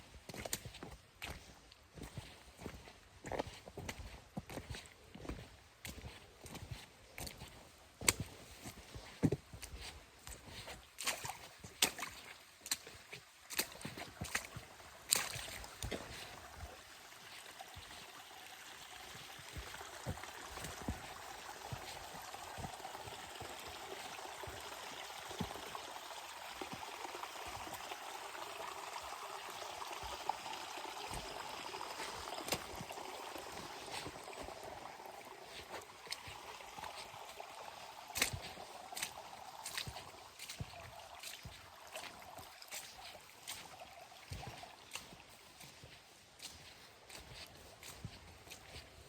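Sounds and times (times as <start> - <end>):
forest stream rushing: 0.0 - 49.0.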